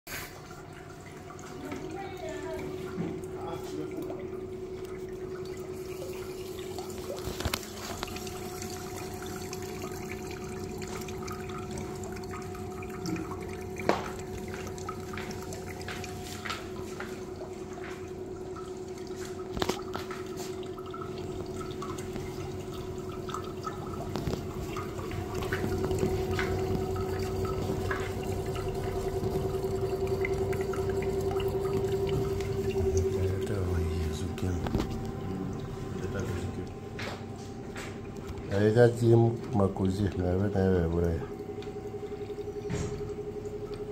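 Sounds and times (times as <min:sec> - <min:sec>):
steady hum: 0:00.1 - 0:43.9
water dripping and trickling: 0:00.1 - 0:43.9.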